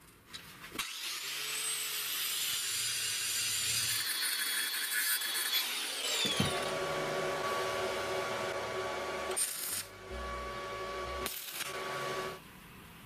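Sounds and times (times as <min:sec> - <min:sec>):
small power tool humming: 0:00.8 - 0:12.4.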